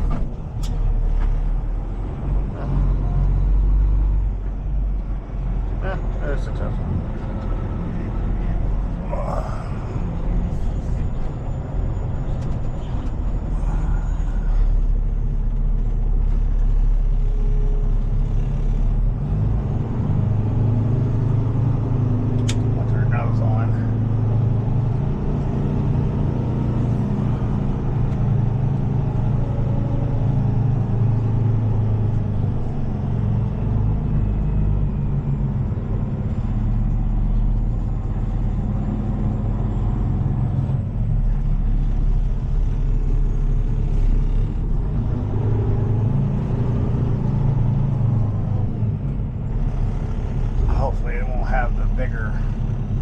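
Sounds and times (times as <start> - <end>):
diesel engine low rumble: 0.0 - 53.0.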